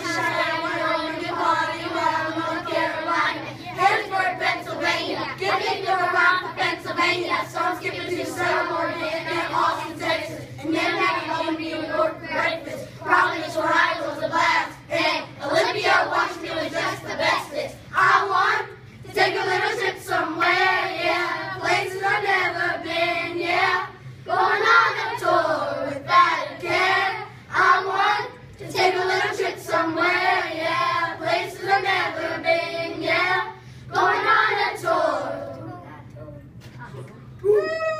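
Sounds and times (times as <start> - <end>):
children singing and rapping: 0.0 - 37.1.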